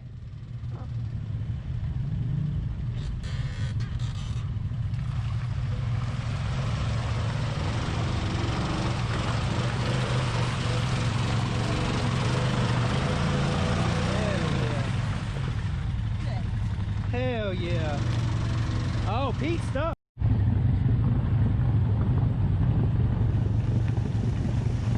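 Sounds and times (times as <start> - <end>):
atv engine running: 0.0 - 24.9.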